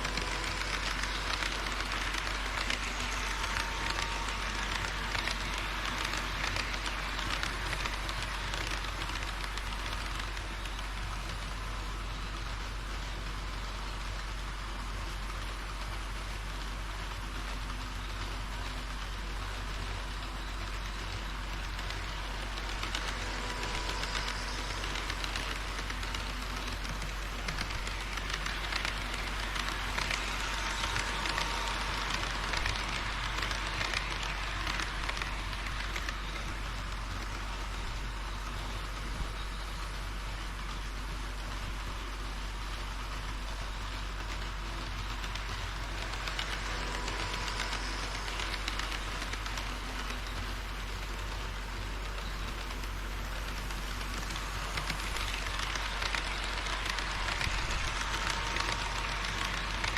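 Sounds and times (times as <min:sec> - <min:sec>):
model train motor running: 0:00.0 - 0:59.9
model train wheels on rails: 0:00.0 - 0:59.9
steady hiss: 0:00.0 - 0:59.9.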